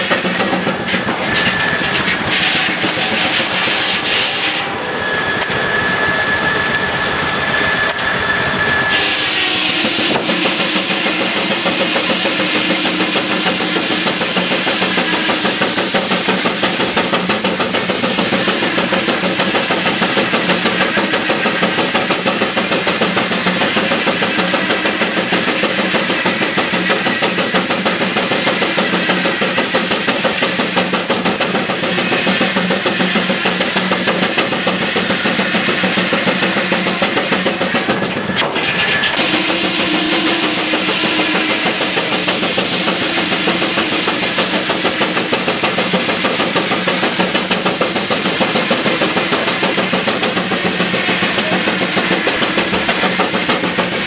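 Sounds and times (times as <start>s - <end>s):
engine running under load: 0.1s - 54.0s.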